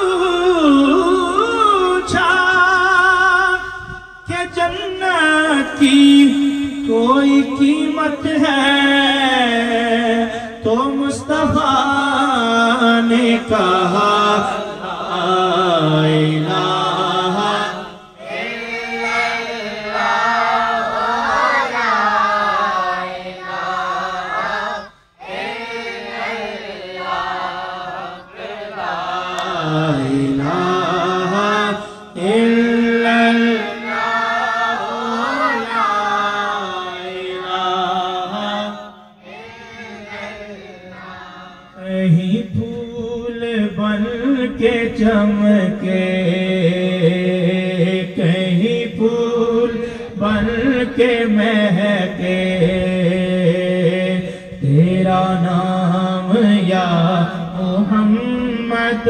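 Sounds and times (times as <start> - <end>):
man singing unaccompanied: 0.0 - 59.0.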